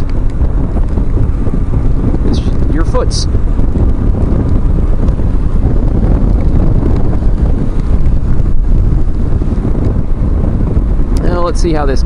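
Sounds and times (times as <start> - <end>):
wind rush on helmet microphone: 0.0 - 12.0.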